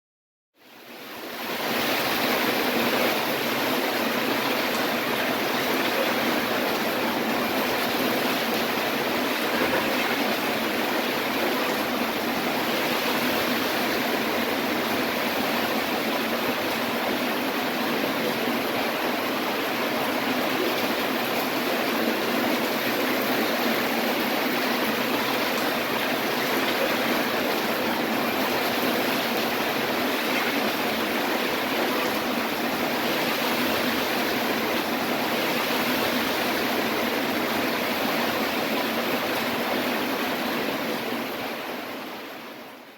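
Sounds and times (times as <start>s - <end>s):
wind: 0.5s - 42.9s
heavy rain falling: 0.6s - 42.9s.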